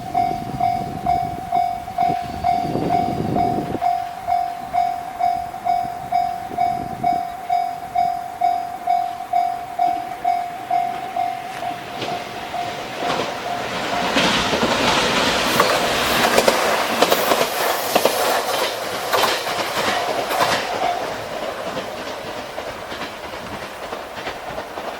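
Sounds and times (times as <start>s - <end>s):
crossing warning bell ringing: 0.0s - 17.5s, 18.5s - 24.9s
train wheels clicking over rail joints: 0.0s - 24.9s.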